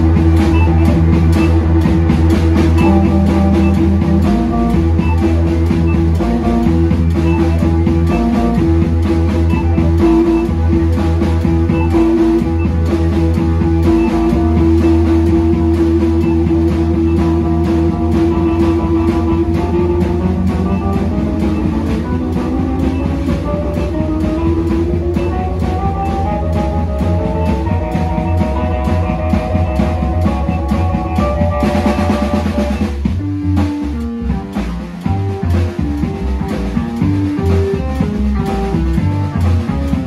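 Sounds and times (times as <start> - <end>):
long held keyboard tone: 0.0 - 1.8, 2.7 - 33.1
keyboard bass: 0.0 - 40.0
ticking beat: 0.0 - 40.0.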